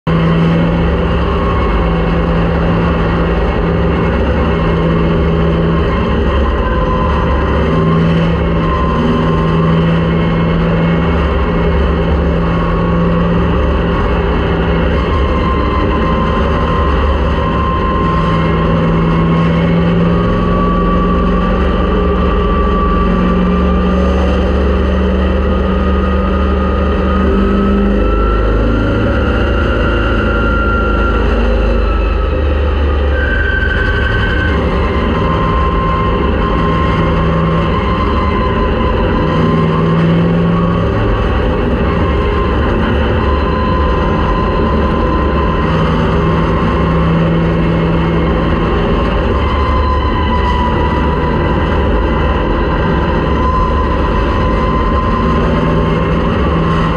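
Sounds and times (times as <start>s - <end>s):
engine whine rising in pitch: 0.0s - 56.9s
race car engine running: 0.0s - 56.9s.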